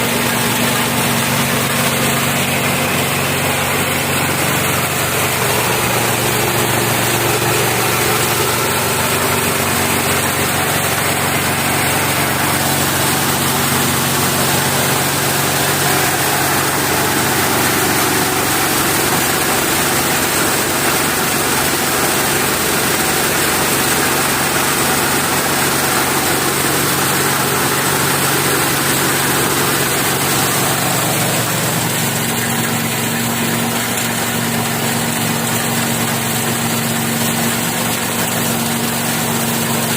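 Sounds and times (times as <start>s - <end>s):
rice milling machine running: 0.0s - 39.9s.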